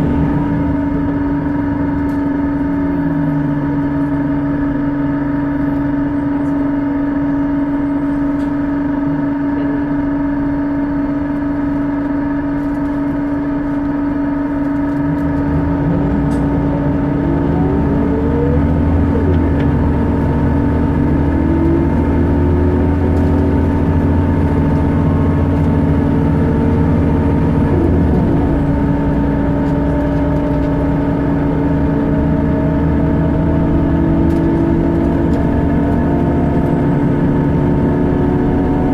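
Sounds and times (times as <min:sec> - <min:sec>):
bus engine running: 0:00.0 - 0:38.9
bus whining: 0:00.0 - 0:38.9.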